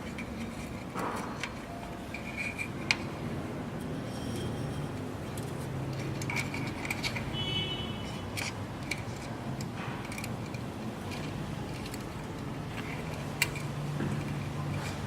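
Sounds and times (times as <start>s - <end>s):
small hard parts clicking: 0.0s - 15.0s.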